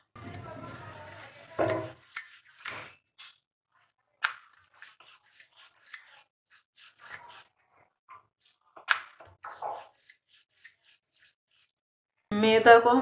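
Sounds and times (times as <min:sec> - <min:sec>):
rolling pin rolling dough: 0:00.0 - 0:03.2, 0:03.9 - 0:11.8.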